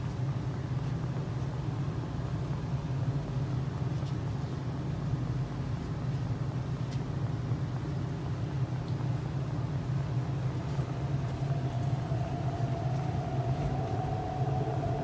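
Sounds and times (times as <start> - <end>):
train carriage hum: 0.0 - 15.0.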